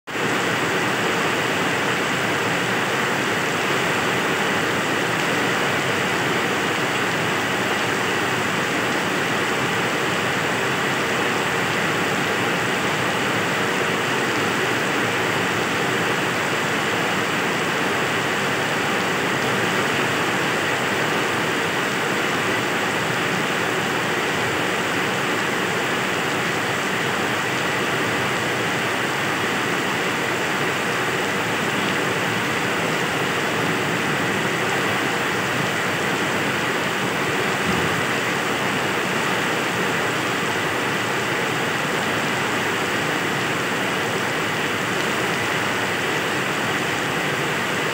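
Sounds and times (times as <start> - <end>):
heavy rain on wet paving: 0.1 - 47.9.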